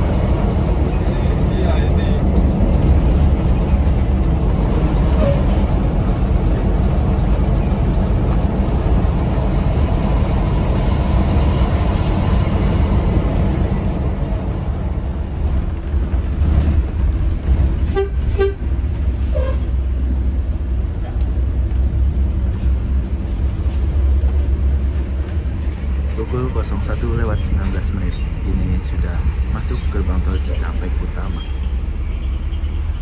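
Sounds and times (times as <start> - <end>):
diesel engine and road noise: 0.0 - 33.0.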